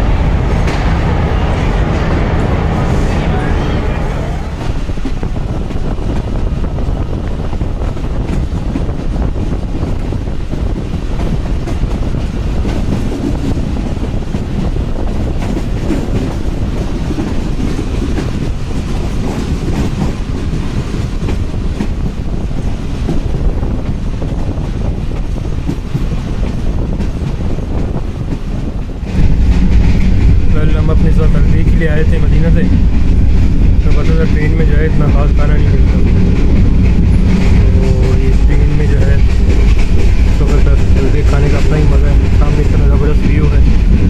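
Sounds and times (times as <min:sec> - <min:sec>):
train wheels on track: 0:00.0 - 0:44.0.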